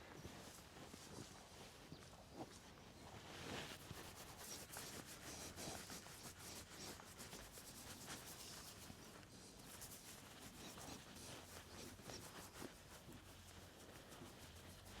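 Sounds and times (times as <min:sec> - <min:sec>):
faint scratching and rubbing: 0:02.4 - 0:15.0.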